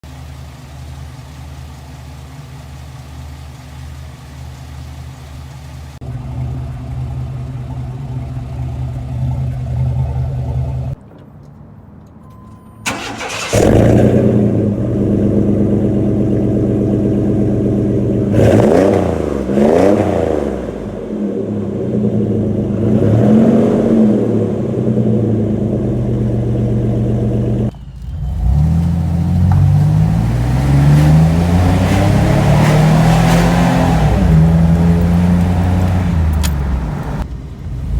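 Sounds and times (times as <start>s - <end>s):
engine idling and revving: 0.0s - 11.1s, 12.8s - 37.9s.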